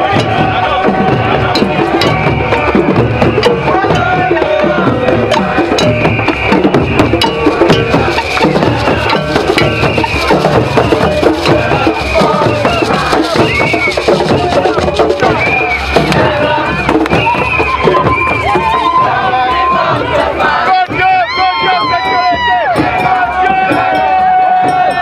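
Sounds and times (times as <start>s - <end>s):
crowd singing together: 0.0s - 21.6s, 22.6s - 25.0s
percussion beat: 0.0s - 25.0s.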